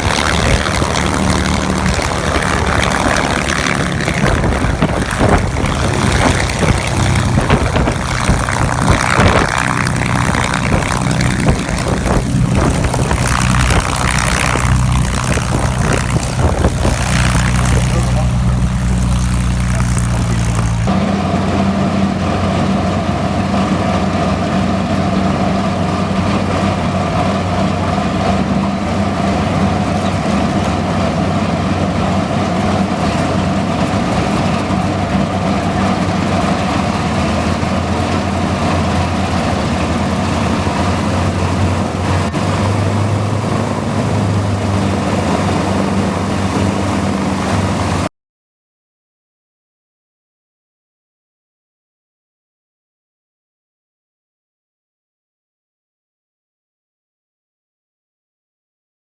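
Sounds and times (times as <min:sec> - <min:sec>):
aircraft piston engine droning: 0:00.0 - 0:48.1.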